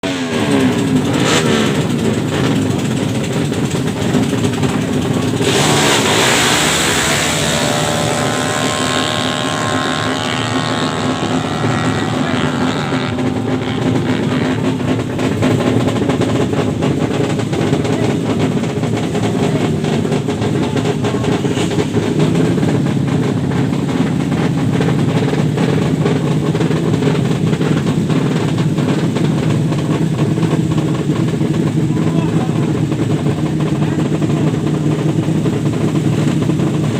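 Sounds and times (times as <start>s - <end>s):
loud rush of noise: 0.0s - 36.9s
motorcycle engines revving: 0.0s - 36.9s.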